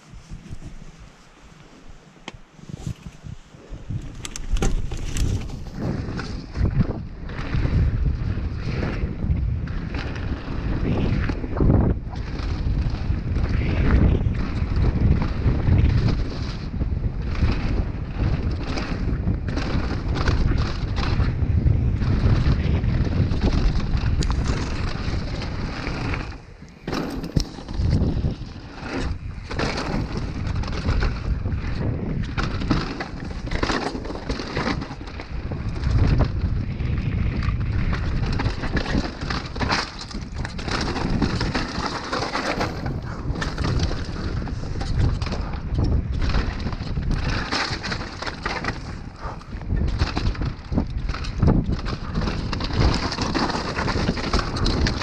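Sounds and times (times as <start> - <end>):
wind rushing over microphone: 0.0 - 55.0
bike chain and frame rattling: 4.0 - 9.0, 12.2 - 55.0.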